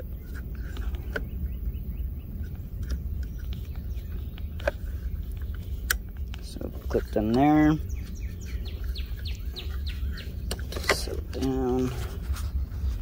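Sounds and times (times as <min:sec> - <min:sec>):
birds chirping faintly: 0:00.0 - 0:13.0
steady low rumble: 0:00.0 - 0:13.0.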